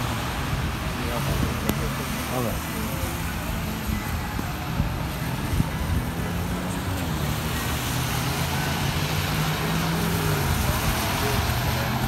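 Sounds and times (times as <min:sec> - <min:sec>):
low engine hum: 0:00.0 - 0:12.0
tyres hissing on wet road: 0:00.0 - 0:12.0.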